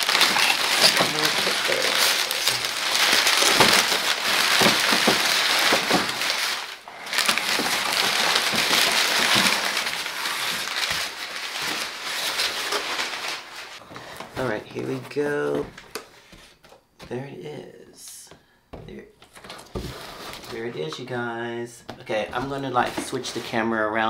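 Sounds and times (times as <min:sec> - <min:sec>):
packing paper rustling and crinkling: 0:00.0 - 0:16.7, 0:19.3 - 0:20.9, 0:22.2 - 0:23.7.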